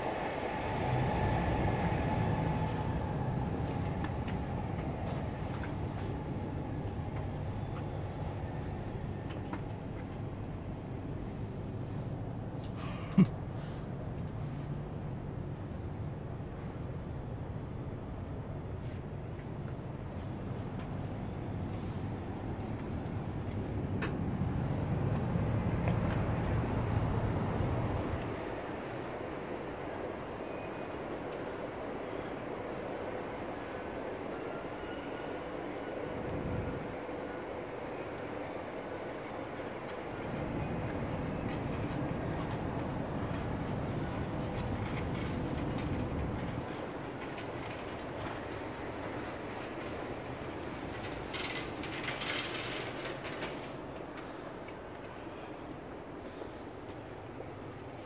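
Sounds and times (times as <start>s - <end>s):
low city rumble: 0.0s - 58.0s.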